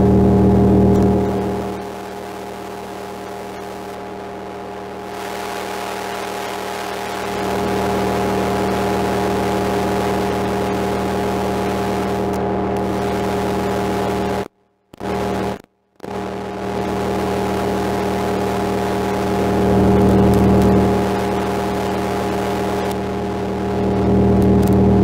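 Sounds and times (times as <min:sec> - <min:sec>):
distorted synthesizer drone: 0:00.0 - 0:25.0.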